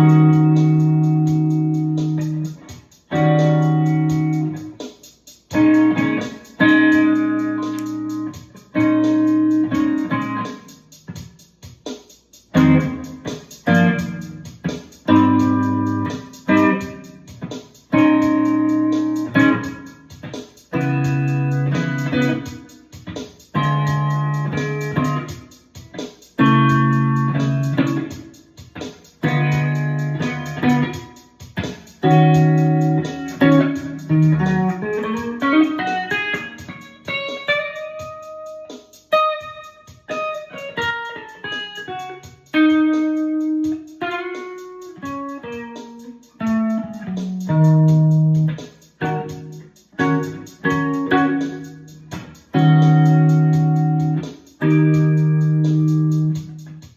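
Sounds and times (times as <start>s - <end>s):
electric guitar playing blues: 0.0s - 4.8s, 5.5s - 10.7s, 12.5s - 56.8s.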